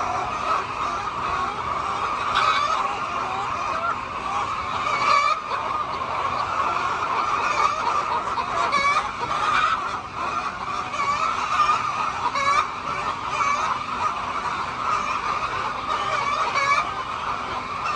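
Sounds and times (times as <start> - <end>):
chicken squawks: 0.0 - 17.9
chickens clucking: 0.0 - 17.9.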